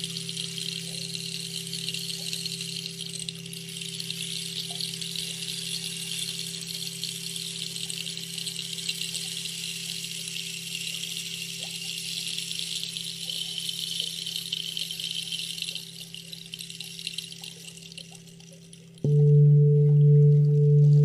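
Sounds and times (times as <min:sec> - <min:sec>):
singing bowl humming: 0:00.0 - 0:16.9, 0:19.0 - 0:21.0.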